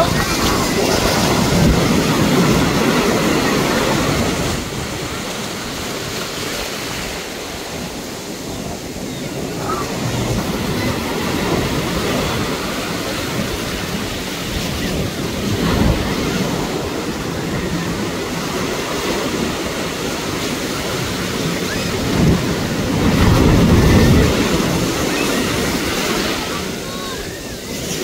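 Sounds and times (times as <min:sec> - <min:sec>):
sea surf breaking: 0:00.0 - 0:28.0.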